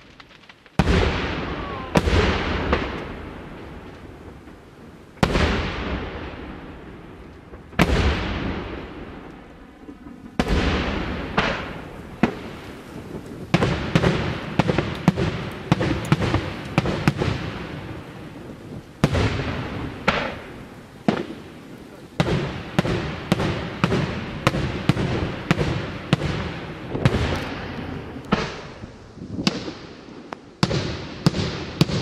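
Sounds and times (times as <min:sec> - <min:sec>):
fireworks bursting with bangs: 0:00.0 - 0:32.0.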